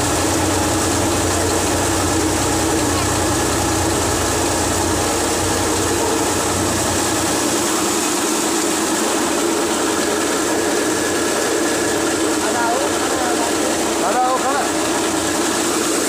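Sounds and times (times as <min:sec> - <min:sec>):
grain thresher whirring: 0:00.0 - 0:16.0.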